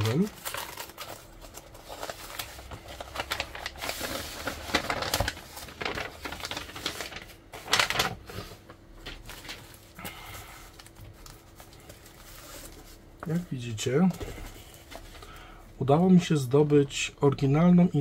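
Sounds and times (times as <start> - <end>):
paper and plastic crinkling: 0.0 - 17.0.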